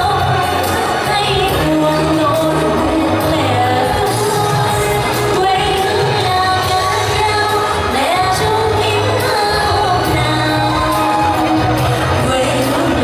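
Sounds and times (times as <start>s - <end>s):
amplified backing music: 0.0s - 13.0s
woman singing into microphone: 0.0s - 13.0s.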